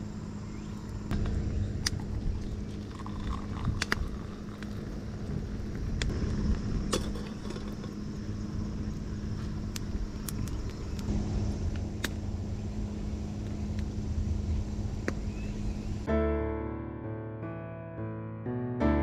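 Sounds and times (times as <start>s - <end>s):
faint hum: 0.0s - 16.1s
low rumble: 0.0s - 16.2s.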